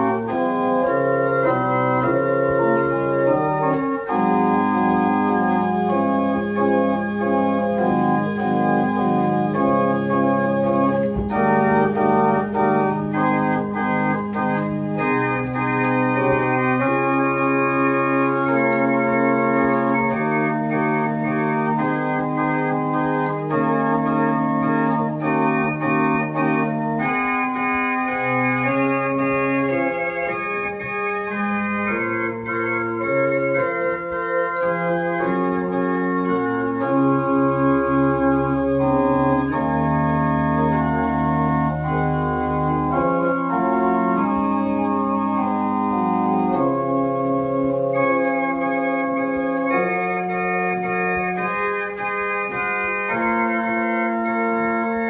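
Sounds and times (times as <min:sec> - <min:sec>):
chamber organ chords: 0:00.0 - 0:55.0.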